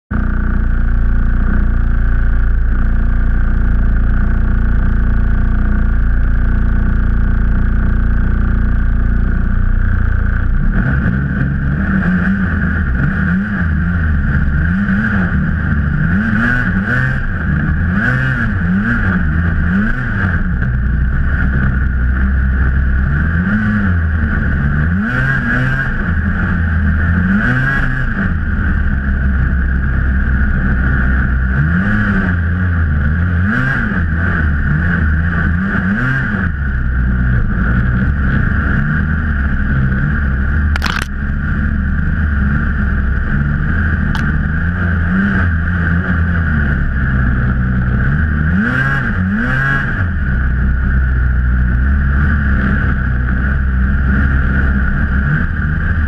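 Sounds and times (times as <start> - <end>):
snowmobile engine revving: 0.2 - 56.0.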